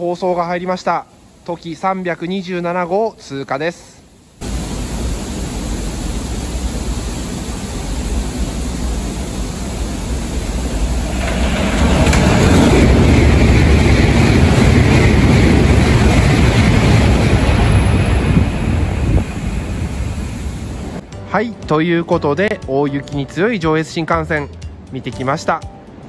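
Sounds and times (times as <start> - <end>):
high-speed train rushing past: 0.0 - 21.3.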